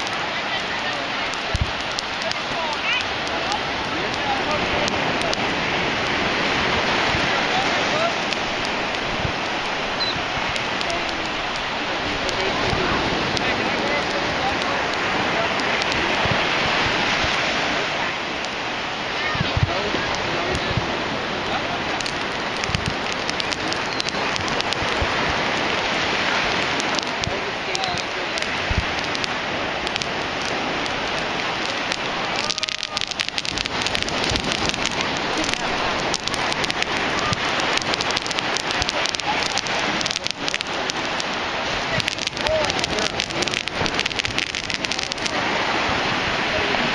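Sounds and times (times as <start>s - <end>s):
fireworks crackling: 0.0s - 46.9s
steady hiss: 0.0s - 46.9s.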